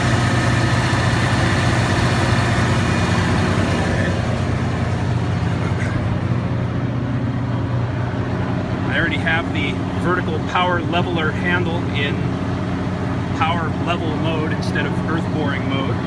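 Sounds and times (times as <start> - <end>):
truck engine fast idle: 0.0 - 16.0.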